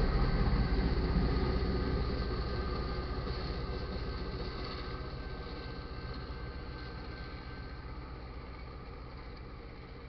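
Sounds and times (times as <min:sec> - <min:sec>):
model train wheels rumbling: 0:00.0 - 0:10.0.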